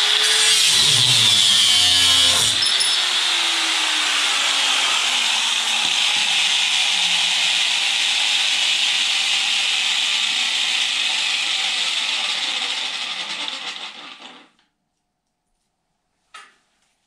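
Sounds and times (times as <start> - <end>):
angle grinder cutting steel: 0.0 - 14.5.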